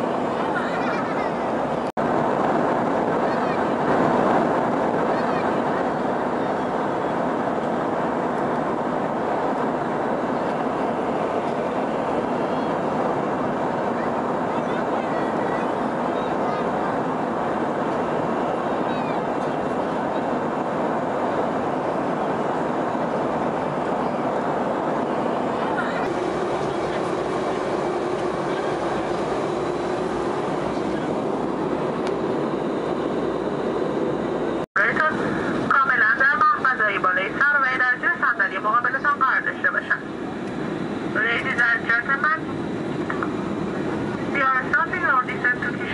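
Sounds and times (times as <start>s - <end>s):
airplane cabin engine and airflow noise: 0.0s - 45.9s.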